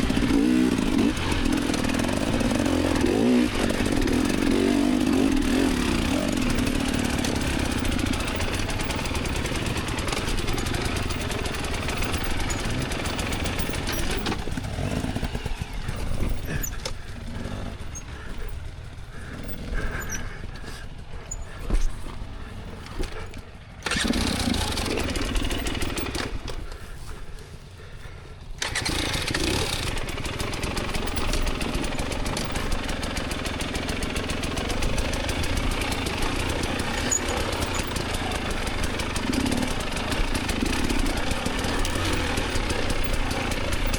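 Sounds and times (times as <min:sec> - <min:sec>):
dirt bike engine running hard: 0:00.0 - 0:43.9.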